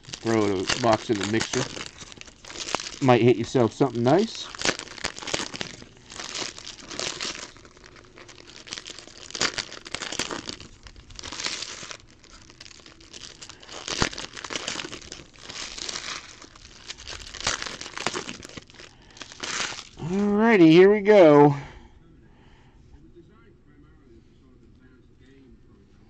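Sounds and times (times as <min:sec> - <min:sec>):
foil wrapper tearing: 0:00.0 - 0:21.5
foil wrappers crinkling: 0:00.0 - 0:21.6.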